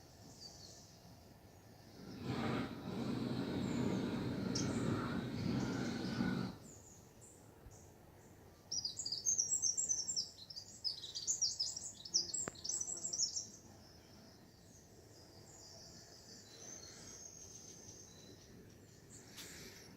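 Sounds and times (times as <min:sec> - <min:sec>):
songbird chirps and trills: 0:00.0 - 0:02.8, 0:03.5 - 0:19.9.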